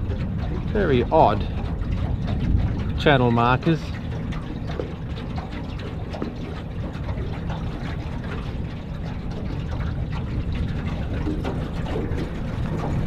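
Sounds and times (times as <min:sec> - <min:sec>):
boat motor running: 0:00.0 - 0:13.0
water lapping at hull: 0:00.0 - 0:13.0
wind on microphone: 0:00.0 - 0:13.0.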